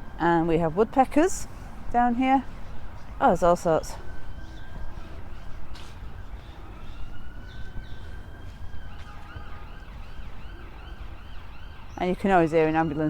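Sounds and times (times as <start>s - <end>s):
emergency siren wailing and yelping: 0.0s - 13.0s.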